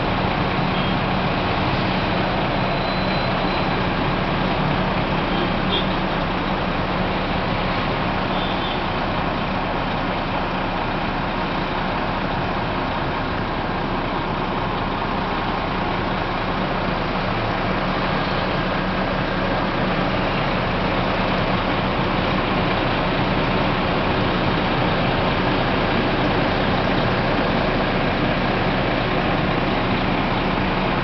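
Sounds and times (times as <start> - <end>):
coach diesel engine idling: 0.0 - 31.0.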